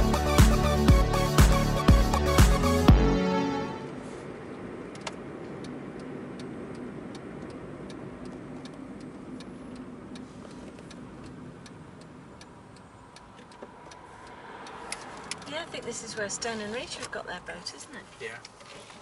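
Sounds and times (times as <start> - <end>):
turn signal ticking: 0.0 - 3.0, 4.3 - 19.0
road and engine noise: 0.0 - 19.0.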